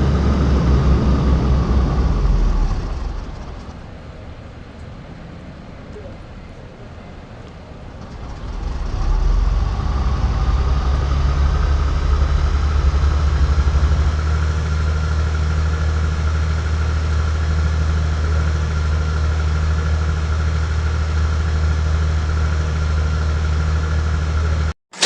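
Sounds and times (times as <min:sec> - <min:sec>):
thin engine whine: 0:00.0 - 0:03.9, 0:08.0 - 0:25.0
airliner engine drone: 0:00.0 - 0:25.0.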